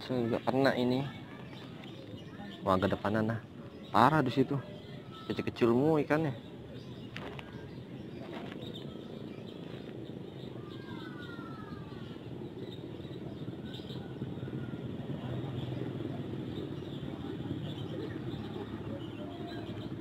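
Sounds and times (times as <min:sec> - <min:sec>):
faint bird chirps: 0:00.0 - 0:20.0
outdoor background rumble: 0:00.0 - 0:20.0.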